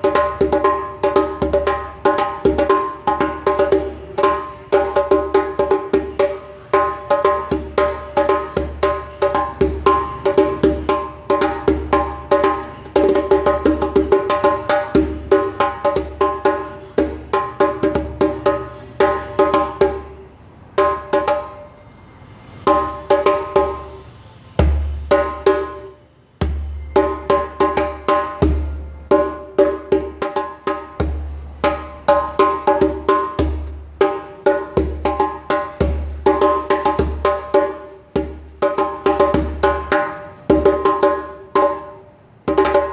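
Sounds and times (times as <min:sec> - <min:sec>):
djembe played by hand: 0:00.0 - 0:21.7, 0:22.6 - 0:24.0, 0:24.6 - 0:42.9.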